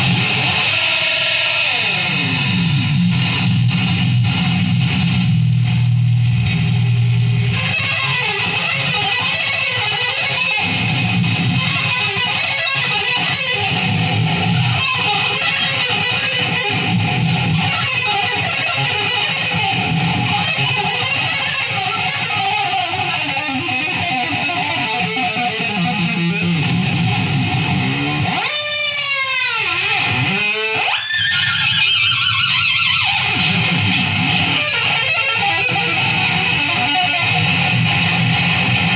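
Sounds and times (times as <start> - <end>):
electric guitar sustained notes: 0.0 - 38.9.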